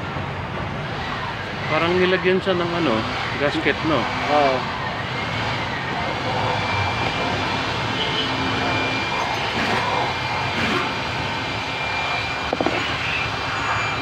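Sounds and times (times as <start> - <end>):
hum of vehicles: 0.0 - 14.0.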